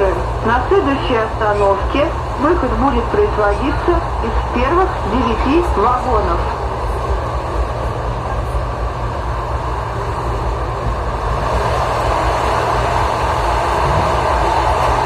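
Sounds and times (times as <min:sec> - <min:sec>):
passenger train rumble inside carriage: 0:00.0 - 0:15.0.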